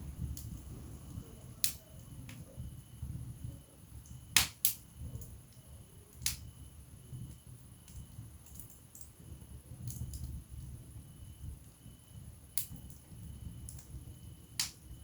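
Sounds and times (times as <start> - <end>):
fire crackling and popping: 0.0 - 15.0
low flame rumble: 0.0 - 15.0.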